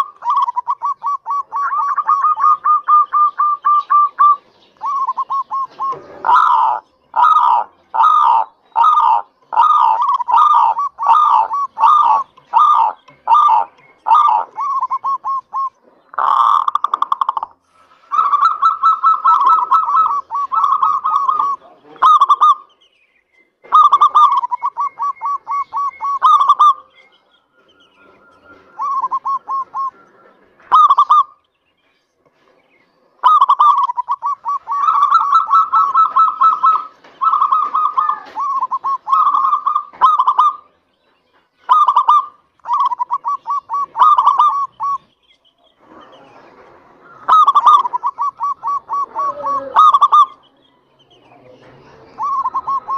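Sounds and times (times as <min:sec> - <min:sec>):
dove cooing: 0:00.0 - 0:22.7, 0:23.6 - 0:31.4, 0:33.2 - 0:40.8, 0:41.6 - 0:45.2, 0:45.8 - 0:50.5, 0:51.4 - 0:52.9.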